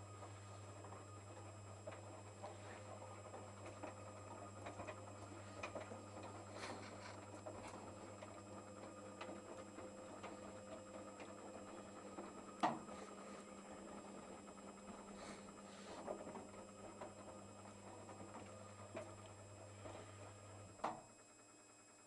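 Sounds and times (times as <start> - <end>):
washing machine hum: 0.0 - 22.0.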